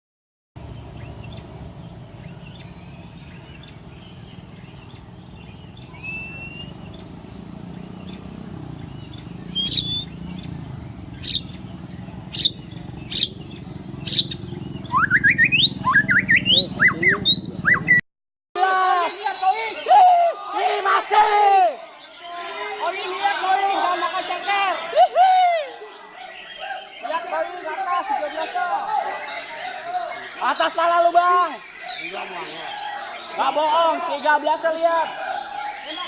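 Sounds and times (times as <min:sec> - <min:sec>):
songbird singing: 0:00.6 - 0:18.0, 0:18.6 - 0:36.0.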